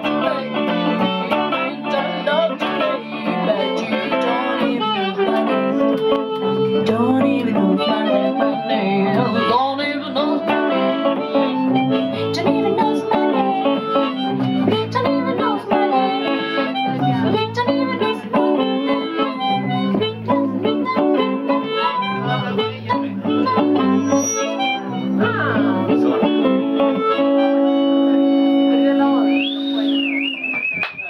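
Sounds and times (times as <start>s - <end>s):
harmonica playing: 0.0s - 30.0s
electric guitar strumming: 0.0s - 30.2s.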